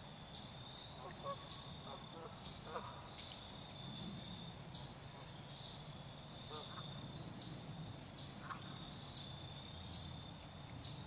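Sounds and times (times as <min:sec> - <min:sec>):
faint steady insect trill: 0:00.0 - 0:11.0
insects chirping: 0:00.0 - 0:11.0.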